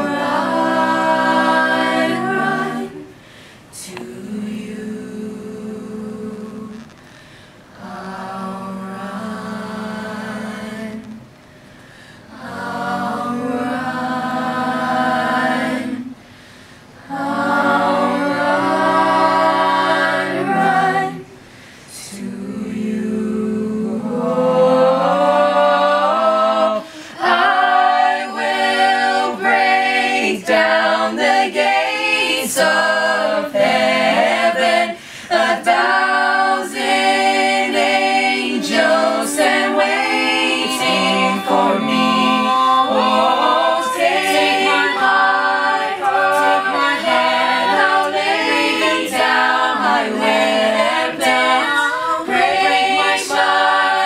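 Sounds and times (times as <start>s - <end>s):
group singing a cappella: 0.0s - 54.0s.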